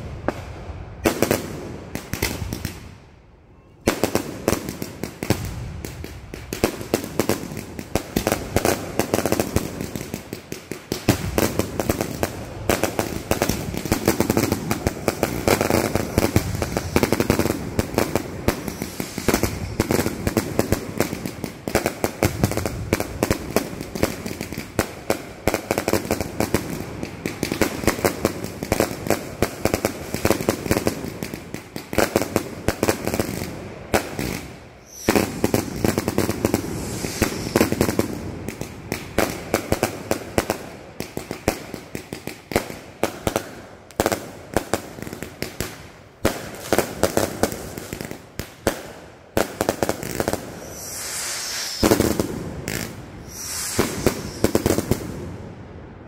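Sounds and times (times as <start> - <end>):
fireworks bangs: 3.7 - 56.0.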